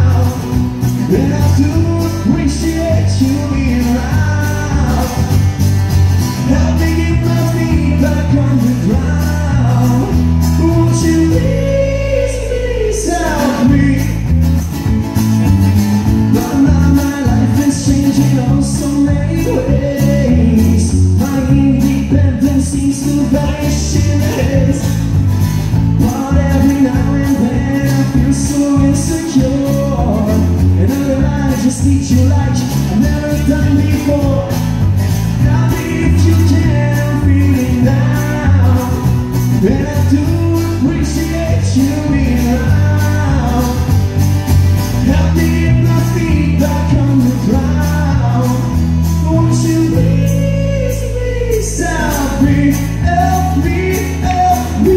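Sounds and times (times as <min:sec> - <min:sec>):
man singing: 0:00.0 - 0:14.7, 0:16.1 - 0:54.9
acoustic guitar strumming: 0:00.0 - 0:54.9
drums: 0:00.0 - 0:54.9
electric bass: 0:00.0 - 0:54.9.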